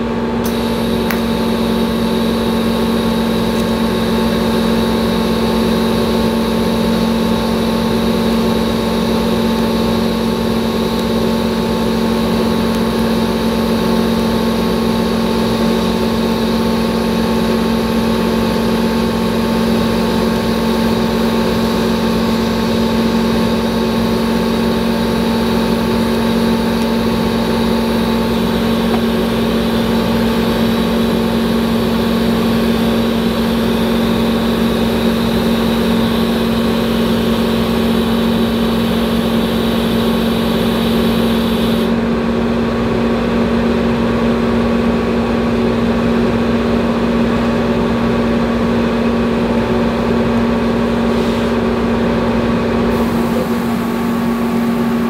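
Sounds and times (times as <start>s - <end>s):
welding machine hum: 0.0s - 55.0s.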